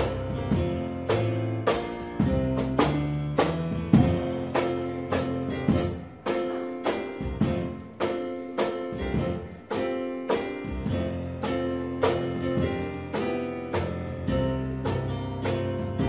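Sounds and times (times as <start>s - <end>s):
instrumental music with steady beat: 0.0s - 16.0s.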